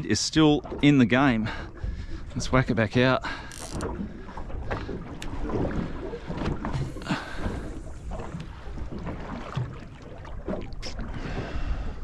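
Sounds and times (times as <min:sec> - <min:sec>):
water slapping boat hull: 0:00.0 - 0:12.0.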